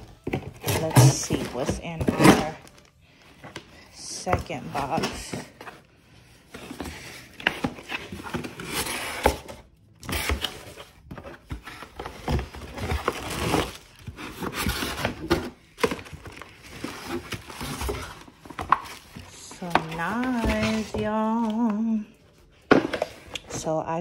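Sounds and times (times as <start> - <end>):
cardboard box rustling and tearing: 0.0 - 23.4.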